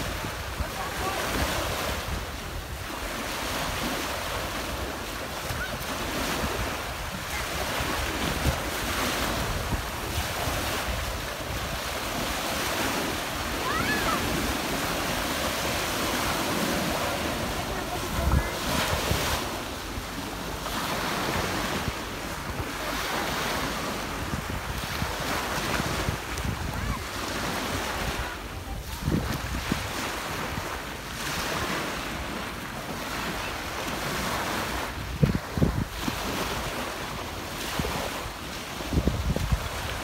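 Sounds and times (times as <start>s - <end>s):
waves washing up a beach: 0.0s - 40.0s.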